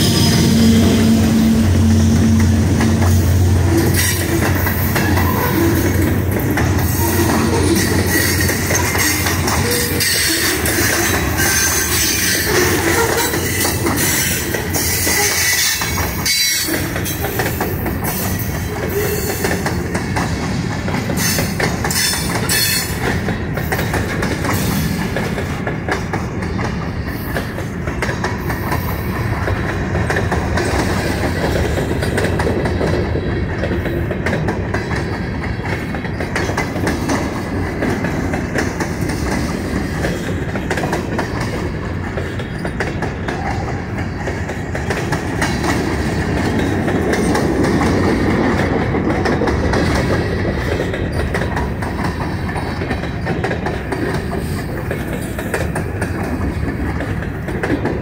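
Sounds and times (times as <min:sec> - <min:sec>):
railroad cars rumbling on rails: 0:00.0 - 0:58.0
wheels clacking over rail joints: 0:00.0 - 0:58.0.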